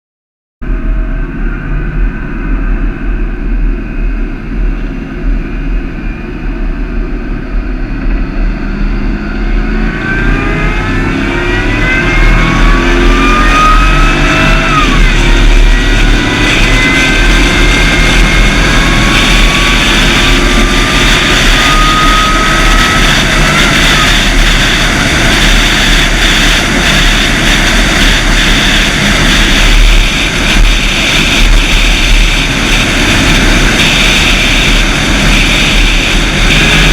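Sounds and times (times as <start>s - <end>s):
engine running: 0.6s - 36.9s
supercharger whine: 0.6s - 36.9s.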